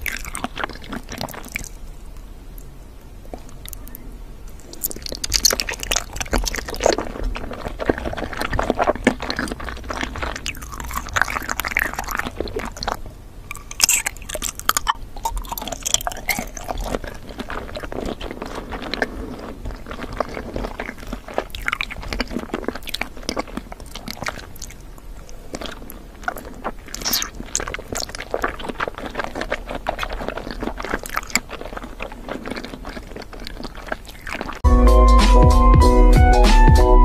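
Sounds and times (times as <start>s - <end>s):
person chewing crunchy candy: 0.0s - 34.6s.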